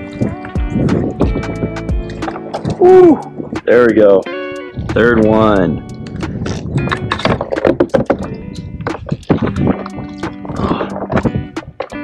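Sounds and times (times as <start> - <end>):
laid-back guitar music: 0.0 - 12.0.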